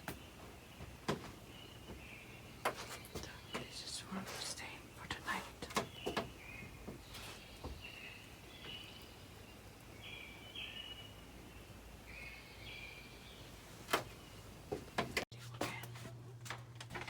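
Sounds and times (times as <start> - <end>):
background hiss: 0.0 - 15.9.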